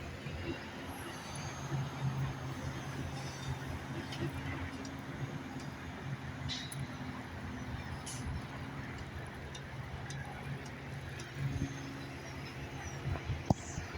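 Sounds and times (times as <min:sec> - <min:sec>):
engine running steadily: 0:00.0 - 0:13.9.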